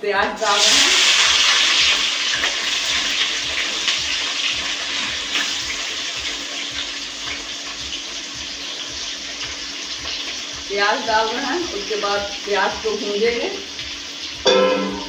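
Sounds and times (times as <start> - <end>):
onions sizzling in hot oil: 0.4 - 15.0.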